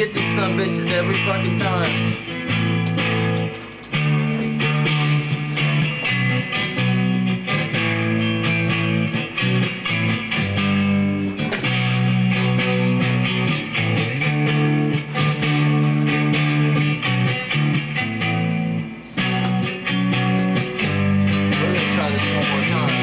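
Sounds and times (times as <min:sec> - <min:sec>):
electric guitar chords: 0:00.0 - 0:23.0.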